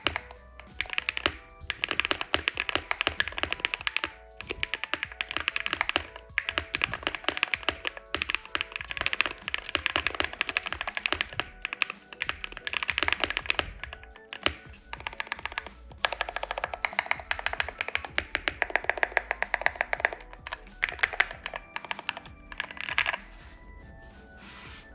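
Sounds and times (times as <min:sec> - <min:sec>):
fast clacky keyboard typing: 0:00.0 - 0:24.0
background music: 0:00.0 - 0:24.9.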